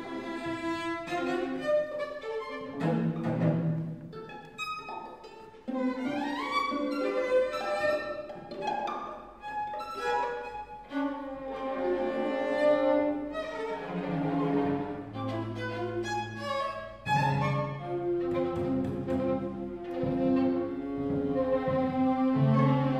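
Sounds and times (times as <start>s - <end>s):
string quartet playing: 0.0s - 22.9s.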